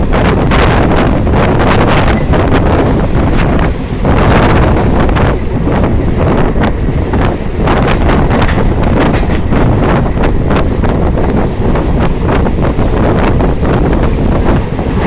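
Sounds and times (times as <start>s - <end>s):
moving vehicle rumble: 0.0s - 15.0s
wind buffeting microphone: 0.0s - 15.0s.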